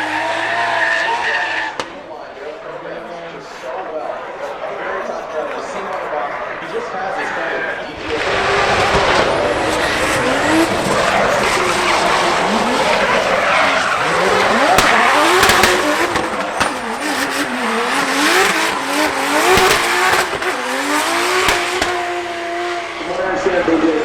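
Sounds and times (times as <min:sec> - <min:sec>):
car engine revving: 0:00.0 - 0:02.1, 0:05.7 - 0:24.0
tyres squealing and skidding: 0:00.0 - 0:02.1, 0:04.2 - 0:24.0.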